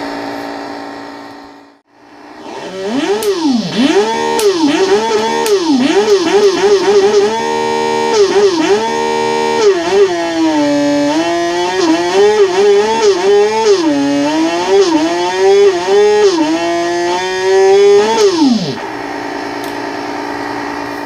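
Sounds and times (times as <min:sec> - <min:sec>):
synthesized motorbike engine revving: 0:01.0 - 0:21.0.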